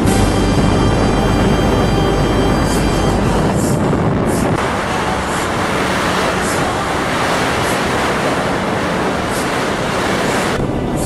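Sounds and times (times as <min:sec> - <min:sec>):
vehicle road noise: 0:00.0 - 0:11.0
wind rushing over microphone: 0:00.0 - 0:11.0.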